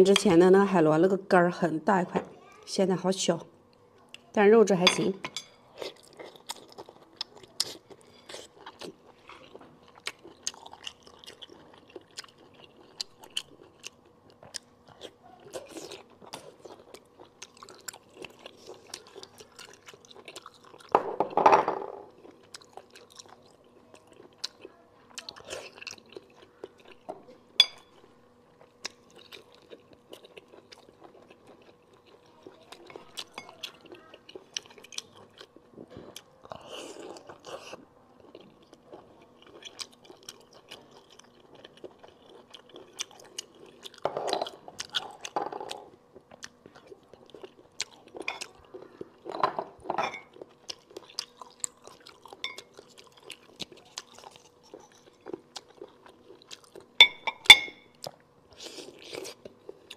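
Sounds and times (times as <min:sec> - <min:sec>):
close chewing with wet mouth sounds: 0:05.7 - 0:20.9, 0:22.1 - 0:49.3, 0:50.2 - 0:59.9.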